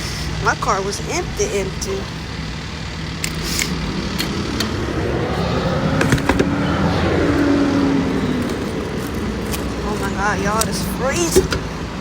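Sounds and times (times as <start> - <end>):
passing vehicle: 0.0 - 12.0
vehicle engine hum: 0.0 - 12.0.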